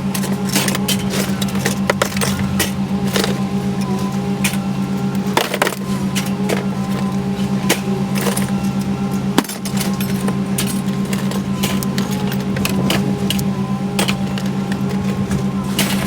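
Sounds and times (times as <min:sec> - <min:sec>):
low engine-like hum: 0:00.0 - 0:16.0
metal scrap clanking: 0:00.0 - 0:16.0.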